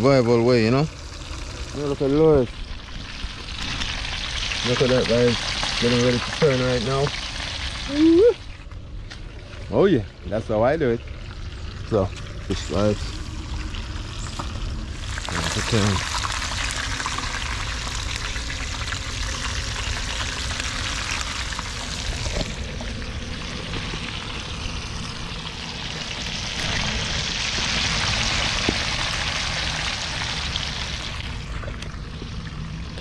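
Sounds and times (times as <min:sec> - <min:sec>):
fish sizzling in hot oil: 0:00.0 - 0:09.7, 0:10.4 - 0:33.0.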